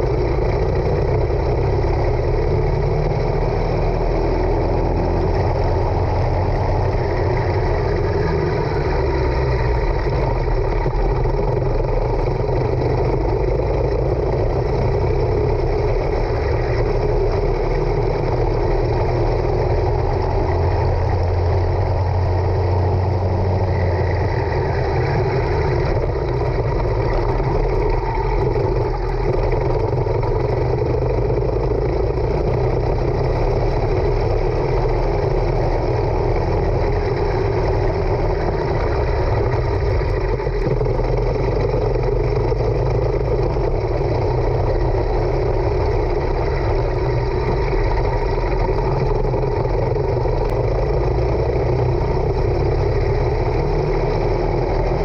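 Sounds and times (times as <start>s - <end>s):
racing kart engine running hard: 0.0s - 55.0s.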